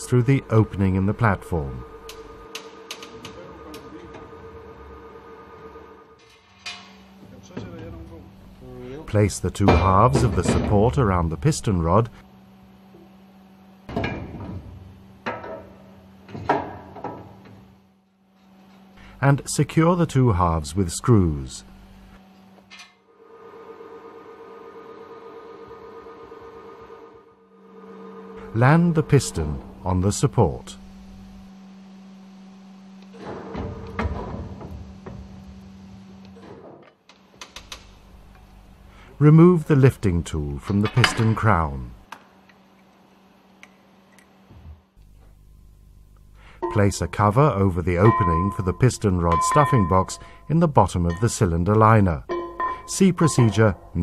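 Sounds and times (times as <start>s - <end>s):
steady low hum: 0.0s - 22.7s, 25.7s - 36.4s, 37.6s - 54.0s.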